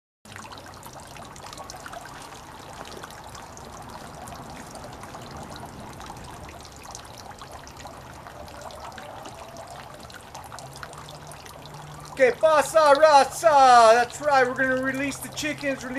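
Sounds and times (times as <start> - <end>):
water dripping and splashing: 0.3 - 15.9
water trickling: 0.3 - 15.9.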